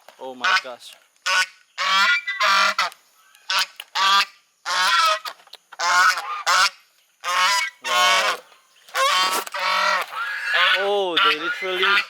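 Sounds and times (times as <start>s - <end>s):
geese honking: 0.4s - 12.0s.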